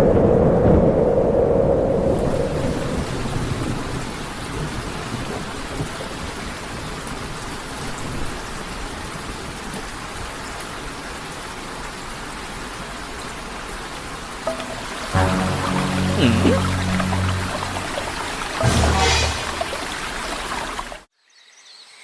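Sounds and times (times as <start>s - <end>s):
steady rain falling: 0.1s - 21.1s.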